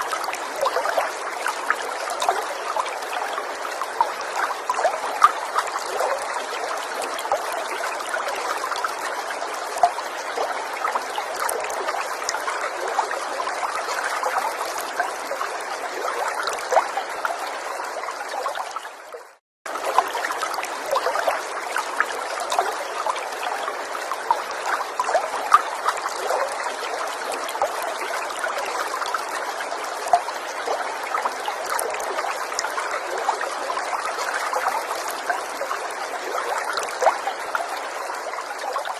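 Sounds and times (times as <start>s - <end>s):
stream trickling and burbling: 0.0s - 38.9s.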